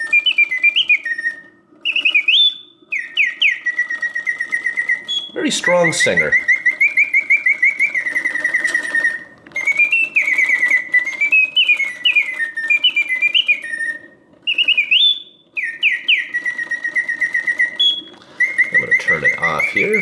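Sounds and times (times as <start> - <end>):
faint mechanism hum: 0.0 - 20.0
mechanical whistle birdsong: 0.0 - 20.0.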